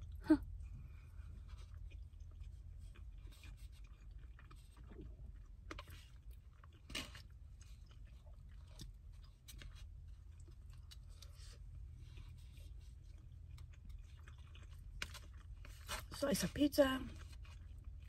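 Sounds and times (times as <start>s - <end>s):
low steady hum: 0.0s - 18.0s
quiet chewing: 0.0s - 18.0s.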